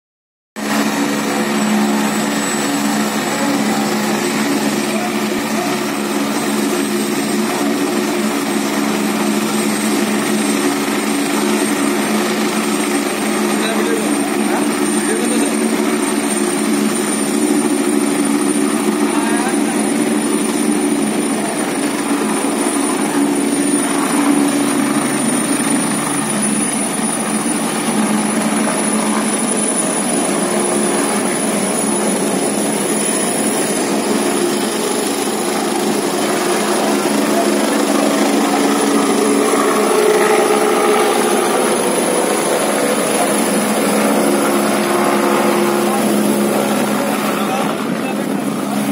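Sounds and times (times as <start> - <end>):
helicopter rotor and engine: 0.6 - 48.9.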